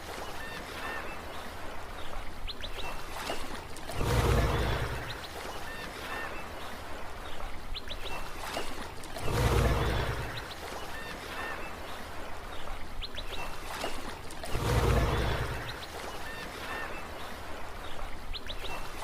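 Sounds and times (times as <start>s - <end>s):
sea waves washing ashore: 0.0s - 19.0s
birds chirping: 0.1s - 19.0s.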